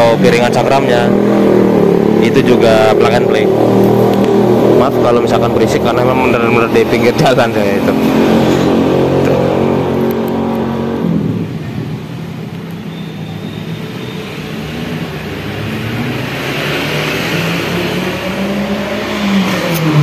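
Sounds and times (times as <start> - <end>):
vehicle approaching: 0.0 - 20.0.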